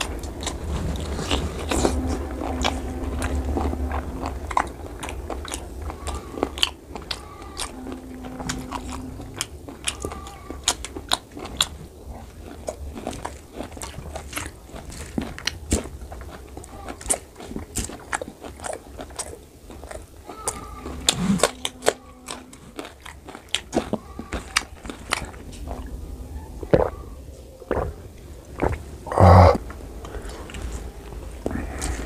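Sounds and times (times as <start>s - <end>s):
person chewing food: 0.0s - 26.0s, 26.6s - 27.0s, 27.7s - 32.0s.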